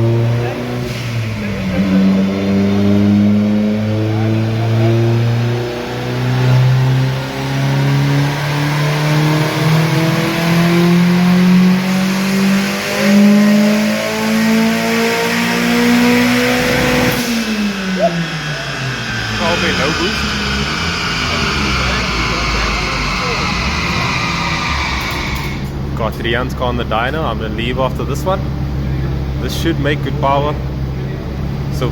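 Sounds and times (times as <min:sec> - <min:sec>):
car engine revving under load: 0:00.0 - 0:31.9.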